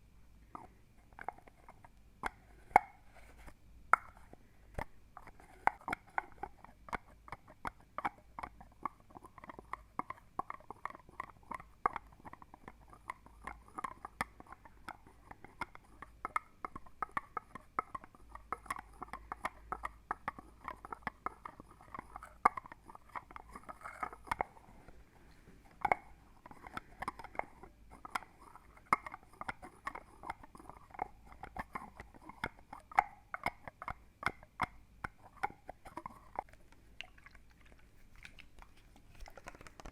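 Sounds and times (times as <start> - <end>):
wet mouth clicking: 4.0 - 24.6, 25.7 - 39.9.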